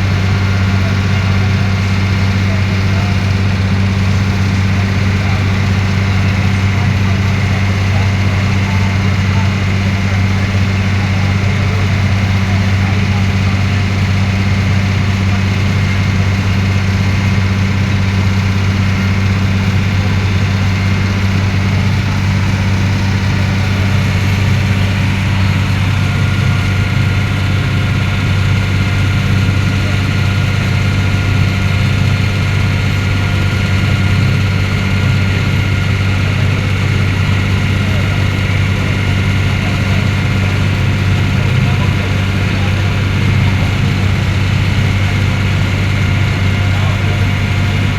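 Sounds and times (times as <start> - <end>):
ferry engine droning: 0.0 - 47.9.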